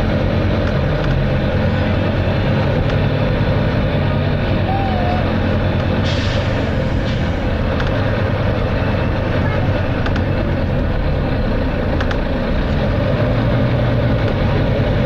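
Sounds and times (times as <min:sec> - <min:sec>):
bus diesel engine droning: 0:00.0 - 0:15.0
road noise: 0:00.0 - 0:15.0.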